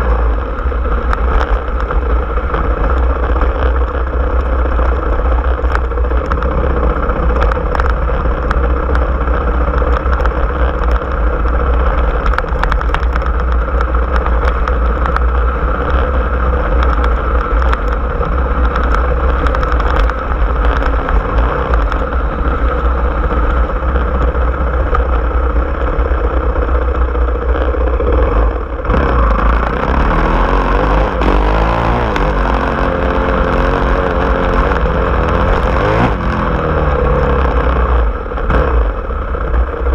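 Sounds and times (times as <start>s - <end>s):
off-road vehicle engine running: 0.0s - 39.9s
rattling and clattering over bumps: 0.0s - 39.9s.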